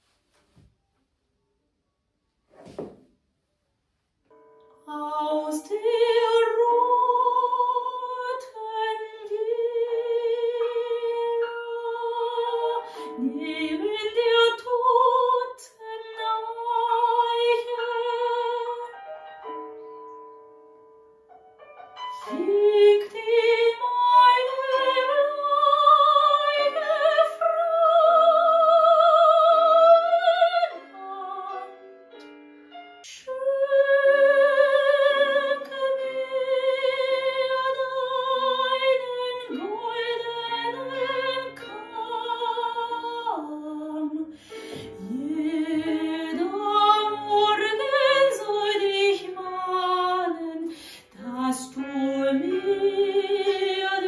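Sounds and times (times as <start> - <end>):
piano accompaniment: 4.3 - 54.0
soprano singing: 4.8 - 20.4, 22.1 - 32.3, 33.0 - 54.0.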